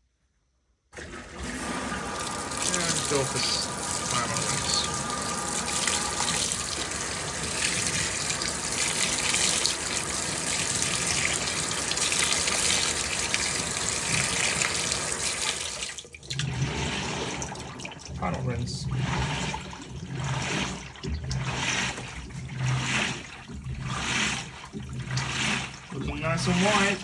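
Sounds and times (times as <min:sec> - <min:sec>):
water rushing into washing machine: 0:01.0 - 0:27.0.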